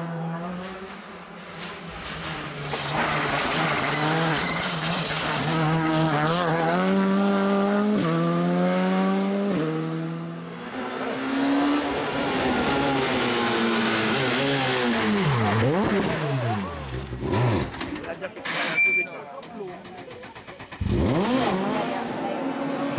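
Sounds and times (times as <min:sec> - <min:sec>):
rally car accelerating with upshifts: 0:00.0 - 0:18.6, 0:20.4 - 0:22.9
rally car braking and downshifting: 0:00.0 - 0:22.9.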